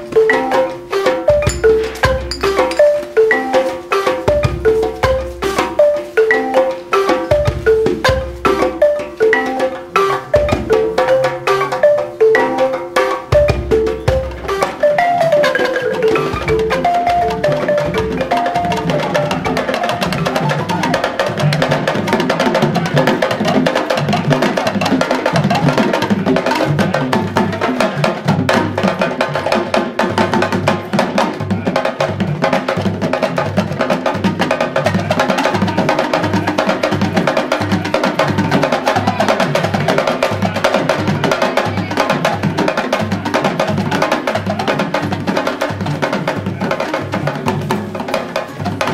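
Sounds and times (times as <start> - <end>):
wooden xylophone notes: 0.0 - 48.9.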